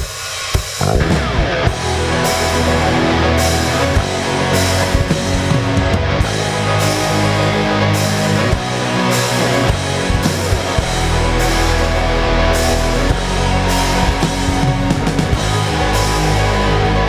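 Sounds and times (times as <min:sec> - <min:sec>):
rock band playing instrumental: 0:00.0 - 0:17.0.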